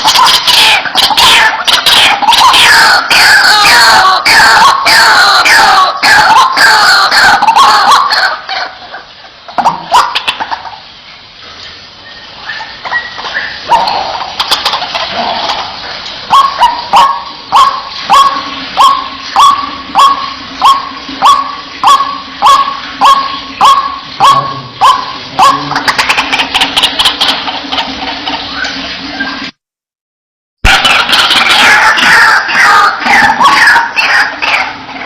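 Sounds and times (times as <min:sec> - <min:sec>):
waterhen calling: 0:00.0 - 0:29.6, 0:30.6 - 0:35.0.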